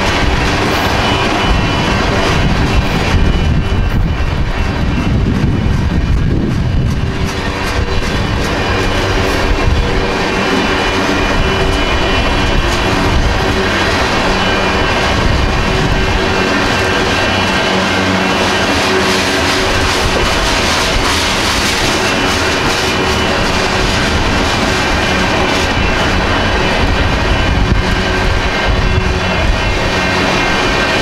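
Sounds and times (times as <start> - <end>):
freight train wheels rumbling on rail: 0.0 - 31.0
rail clicks: 0.0 - 31.0.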